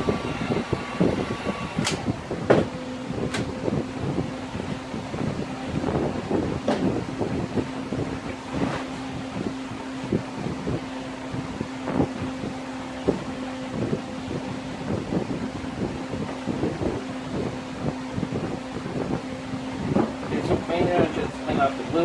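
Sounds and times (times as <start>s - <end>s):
heat gun humming and blowing: 0.0s - 22.0s.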